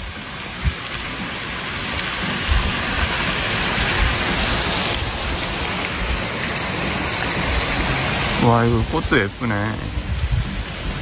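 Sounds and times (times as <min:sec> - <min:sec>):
fountain jet spraying water: 0:00.0 - 0:11.0.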